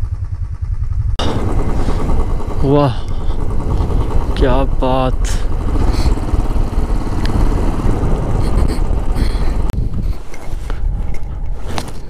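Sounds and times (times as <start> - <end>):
motorcycle engine running: 0.0 - 12.0
wind buffeting microphone: 1.2 - 12.0.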